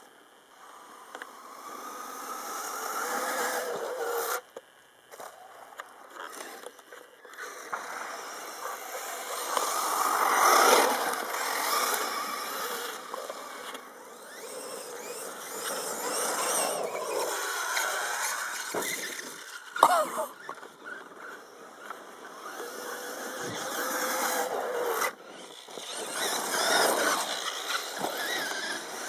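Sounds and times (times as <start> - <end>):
electric motor whining: 0.6 - 4.5, 6.2 - 29.0.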